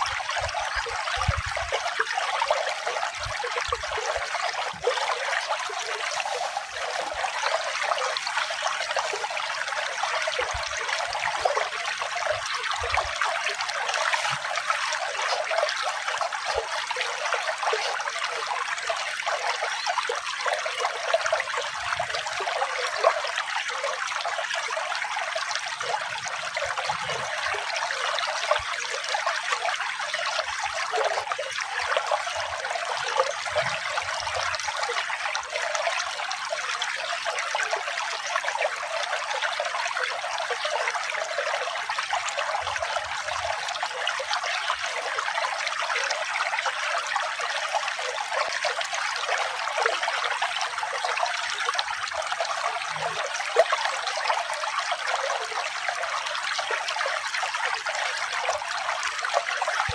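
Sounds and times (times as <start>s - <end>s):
running water trickling and splashing: 0.0s - 59.9s.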